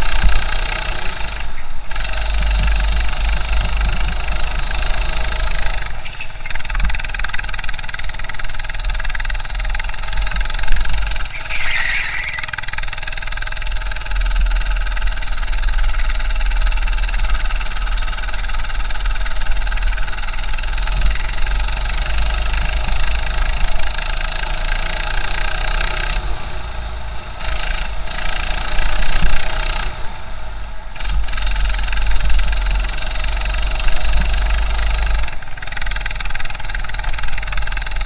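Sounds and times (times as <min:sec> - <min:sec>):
muffled go-kart engine: 0:00.0 - 0:38.0.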